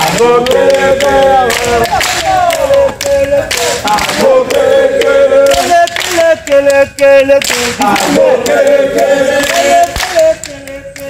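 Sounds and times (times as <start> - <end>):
group singing a chant: 0.0 - 11.0.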